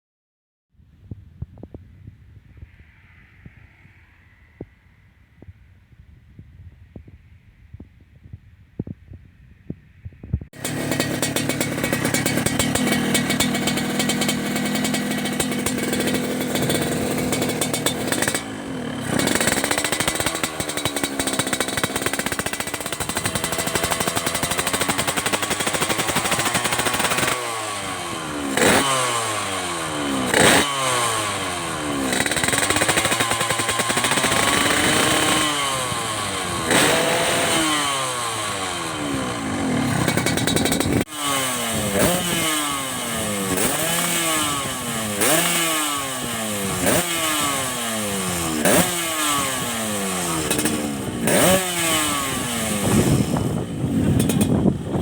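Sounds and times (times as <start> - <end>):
two-stroke motorcycle engine revving: 10.6 - 55.0.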